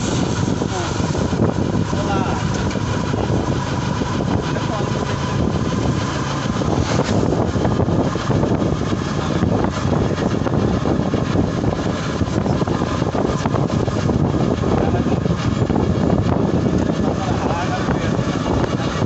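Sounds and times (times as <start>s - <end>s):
vehicle engine and tyre noise: 0.0s - 19.0s.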